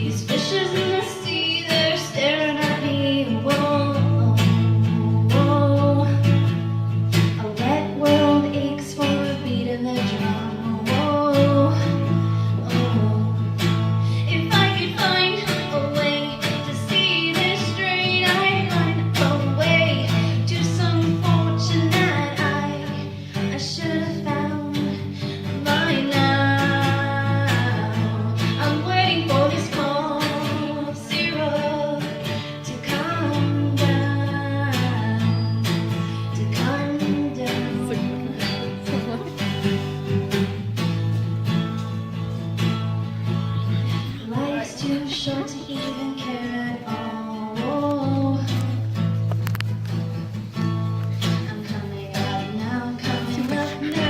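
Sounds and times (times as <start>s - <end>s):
woman singing: 0.0s - 40.6s, 43.3s - 49.0s, 51.0s - 54.0s
guitar strummed in chords: 0.0s - 54.0s.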